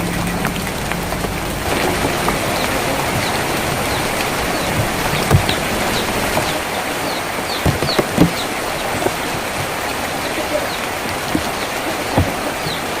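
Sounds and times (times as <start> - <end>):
bird chirping: 0.0 - 13.0
heavy drops knocking: 0.0 - 13.0
rain on a tin roof: 0.0 - 13.0.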